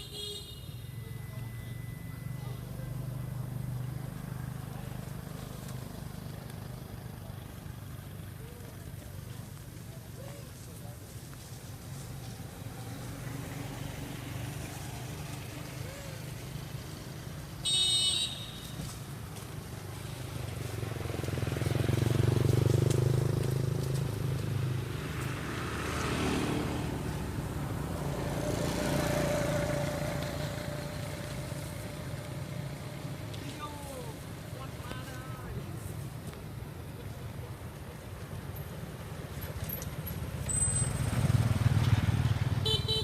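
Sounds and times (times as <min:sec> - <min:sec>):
passing vehicle engines rumbling: 0:00.0 - 0:43.0.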